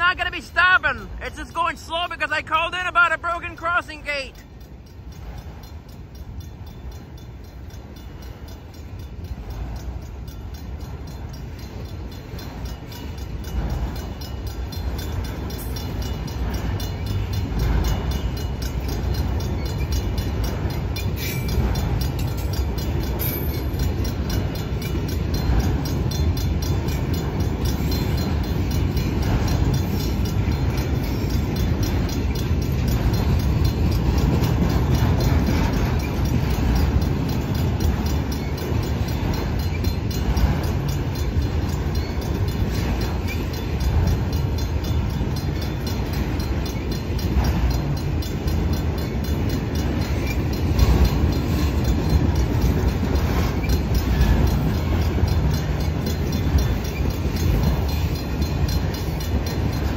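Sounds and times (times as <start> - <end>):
faint rail clacks: 0.0 - 59.9
freight train wheels rumbling: 0.0 - 59.9.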